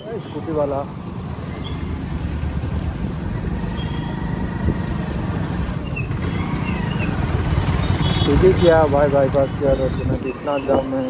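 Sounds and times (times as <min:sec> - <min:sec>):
motorcycle engine rumbling: 0:00.0 - 0:11.0
road and wind noise: 0:00.0 - 0:11.0.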